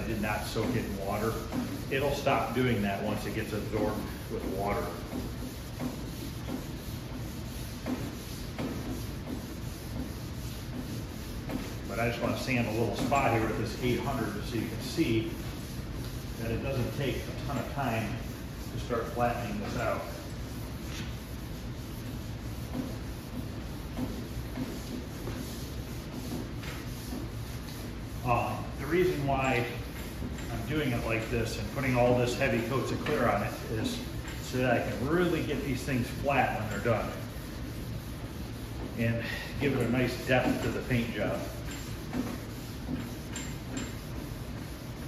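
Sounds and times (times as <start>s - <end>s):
sandpaper swishing on paint: 0.0s - 45.0s.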